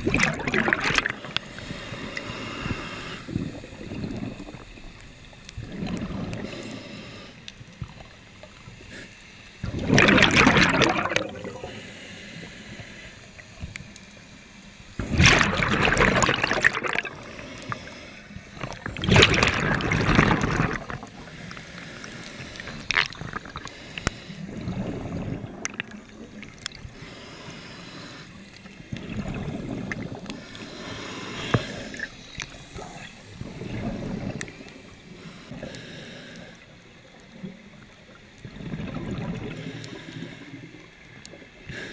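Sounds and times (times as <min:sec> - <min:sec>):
underwater breath bubbles: 0:00.0 - 0:07.4, 0:08.9 - 0:13.2, 0:15.0 - 0:37.6, 0:38.4 - 0:40.9.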